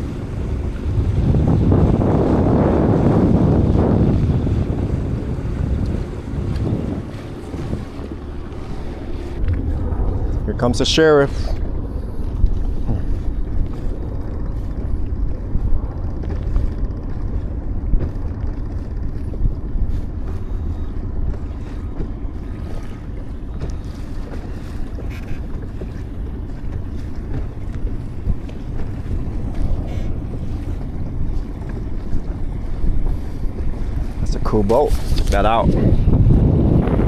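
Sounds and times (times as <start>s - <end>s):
outboard motor running: 0.0s - 37.0s
wind buffeting microphone: 0.0s - 37.0s.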